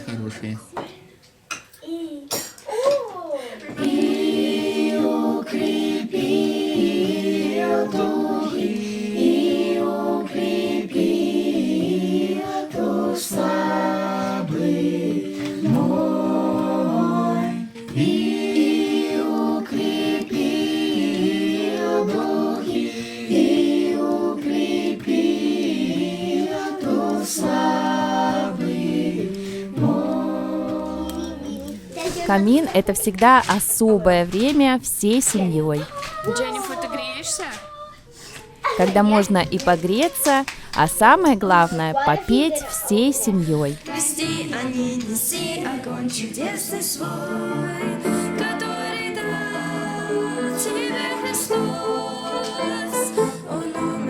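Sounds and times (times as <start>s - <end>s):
a cappella group singing: 3.6s - 36.1s, 37.6s - 54.0s.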